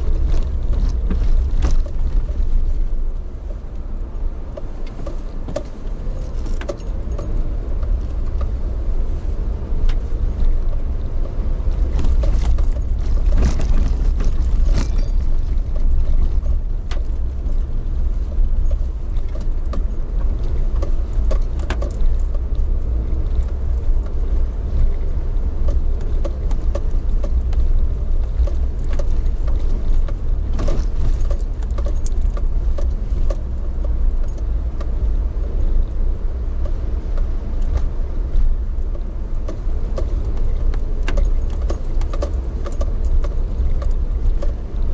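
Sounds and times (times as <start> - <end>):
vehicle rumble from inside: 0.0 - 44.9.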